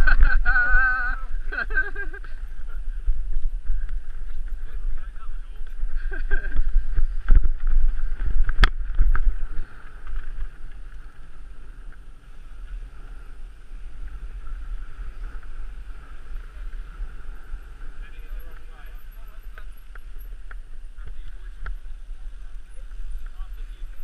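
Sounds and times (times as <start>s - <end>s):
bike rolling on tarmac: 0.0s - 24.0s
wind buffeting microphone: 0.0s - 24.0s.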